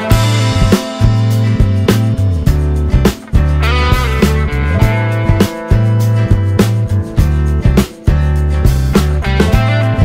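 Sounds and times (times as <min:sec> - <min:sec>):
bass notes: 0:00.0 - 0:10.0
drum beat: 0:00.0 - 0:10.0
guitar: 0:00.0 - 0:10.0.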